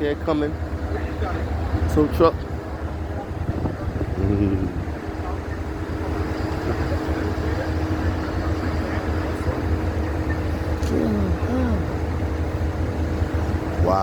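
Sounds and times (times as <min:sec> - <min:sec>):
heavy vehicle engine idling: 0:00.0 - 0:14.0.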